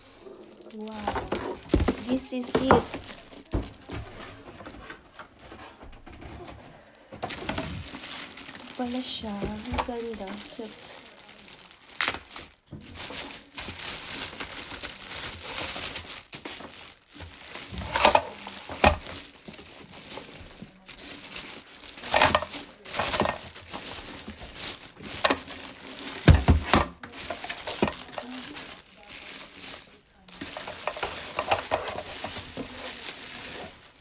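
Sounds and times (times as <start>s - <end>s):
packaging crinkling and rustling: 0.4s - 34.0s.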